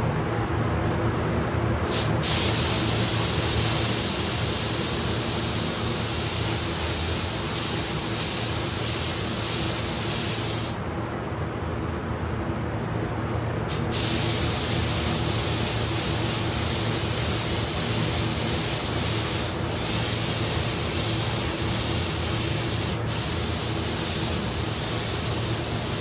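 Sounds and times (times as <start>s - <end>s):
paint spray gun hissing: 1.9s - 10.8s, 13.7s - 26.0s.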